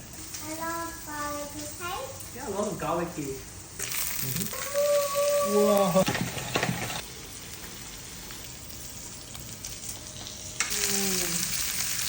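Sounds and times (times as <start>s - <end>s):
beef sizzling on a grill: 0.0s - 12.0s.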